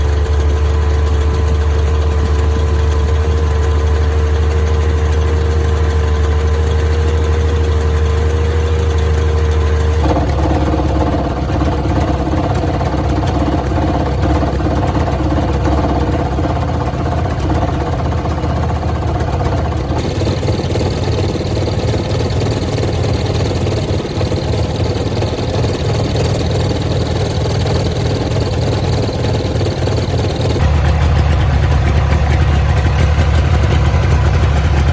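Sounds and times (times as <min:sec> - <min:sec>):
two-stroke engine idling: 0:00.0 - 0:34.9
steady whining tone: 0:04.8 - 0:34.9.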